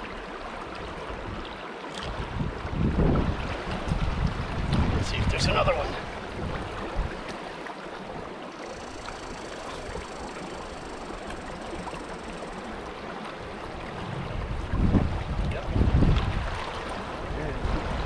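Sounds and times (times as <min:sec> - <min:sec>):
brook flowing over stones: 0:00.0 - 0:18.0.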